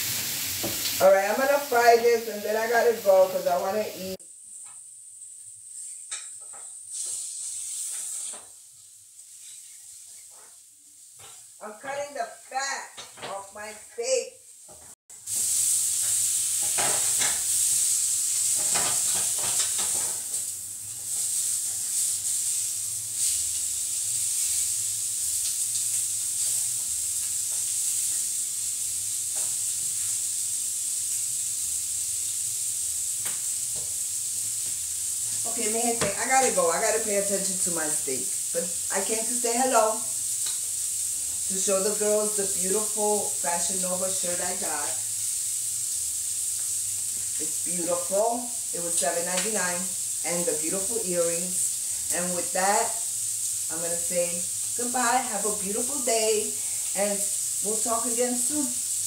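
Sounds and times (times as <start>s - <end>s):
steak sizzling in frying pan: 0.0s - 59.0s.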